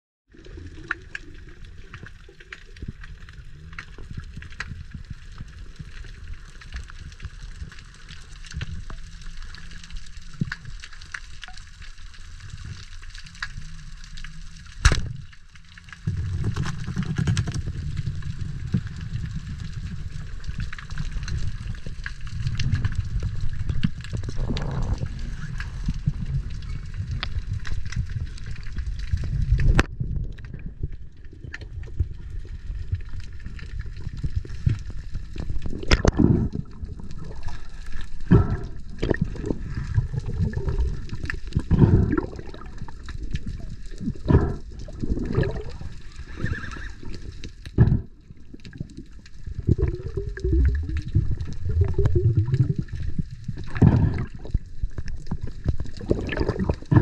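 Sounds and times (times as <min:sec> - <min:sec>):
bubbly gurgle: 0:00.3 - 0:57.0
underwater rushing and gurgling: 0:00.3 - 0:57.0.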